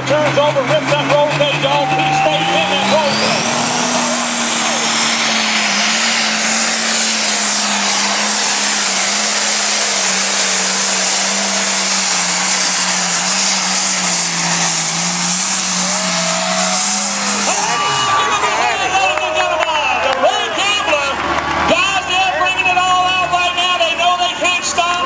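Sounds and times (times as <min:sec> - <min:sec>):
steady rushing roar: 0:00.0 - 0:25.0
tractor engine running hard: 0:00.0 - 0:25.0.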